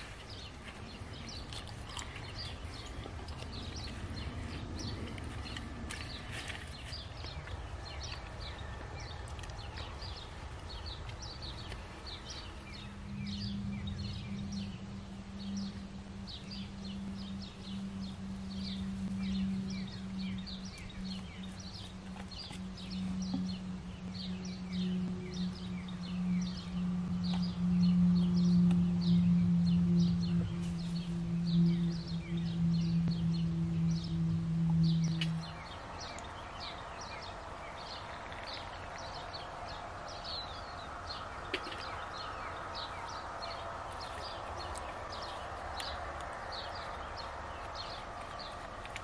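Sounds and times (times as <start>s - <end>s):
low wind rumble: 0.0s - 49.0s
small birds chirping: 0.0s - 49.0s
steady low humming tone: 0.0s - 49.0s.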